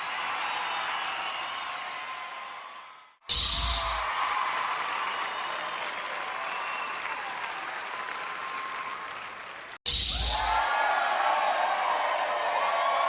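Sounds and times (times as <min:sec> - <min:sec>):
audience applause and cheering: 0:00.0 - 0:13.0.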